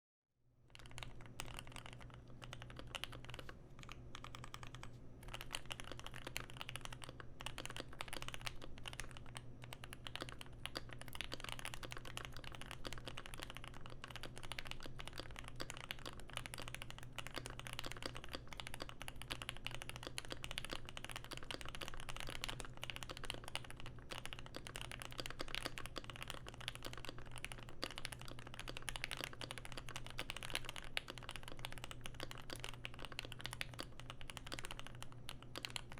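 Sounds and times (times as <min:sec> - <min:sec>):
fast typing on mechanical keyboard: 0:00.7 - 0:35.9.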